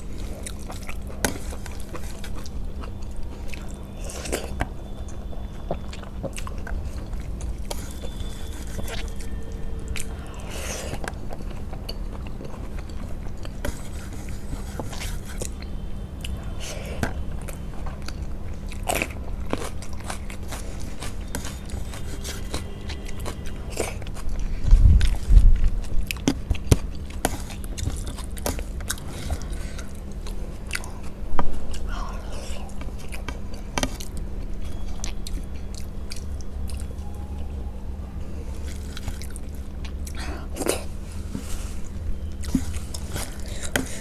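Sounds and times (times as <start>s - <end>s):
person chewing food: 0.0s - 37.6s, 38.2s - 44.0s
steady low hum: 0.0s - 44.0s.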